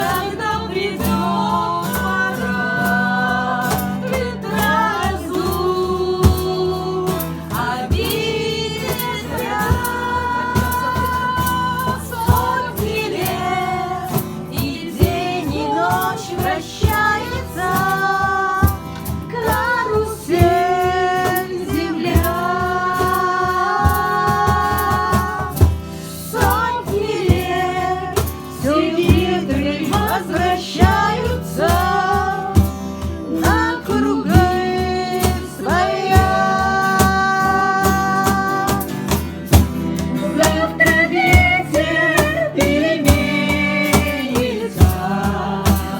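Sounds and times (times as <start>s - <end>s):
instrumental accompaniment: 0.0s - 45.9s
woman singing: 0.0s - 45.9s.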